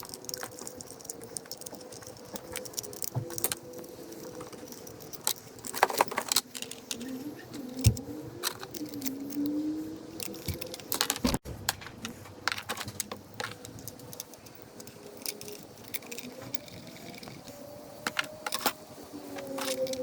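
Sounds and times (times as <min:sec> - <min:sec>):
tools clicking and rattling: 0:00.0 - 0:20.0.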